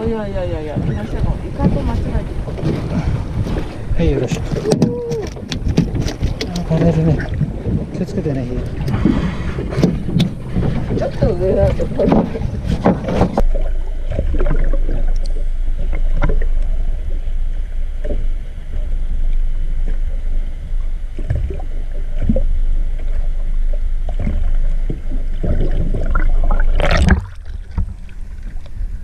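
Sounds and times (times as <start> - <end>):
boat engine rumble: 0.0 - 29.0
water sloshing: 0.0 - 29.0.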